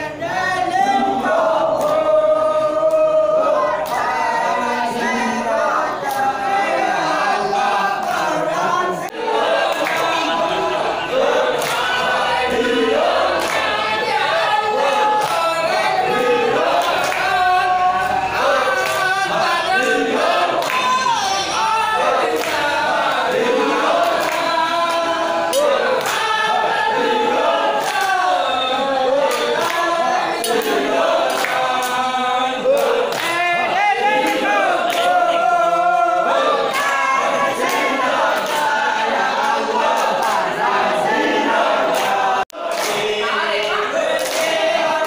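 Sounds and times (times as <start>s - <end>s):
group of men singing: 0.0s - 45.0s.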